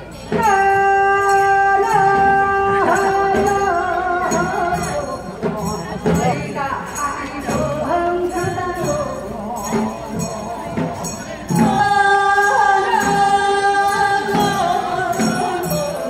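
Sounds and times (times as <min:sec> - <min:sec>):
folk singers singing: 0:00.0 - 0:16.0.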